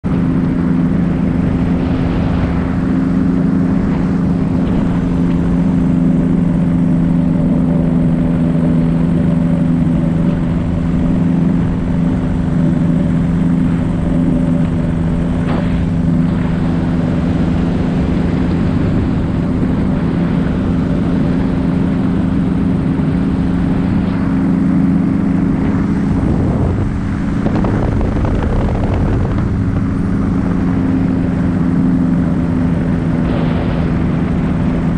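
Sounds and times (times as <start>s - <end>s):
paramotor engine droning: 0.0s - 34.9s
rushing noise: 0.2s - 34.9s.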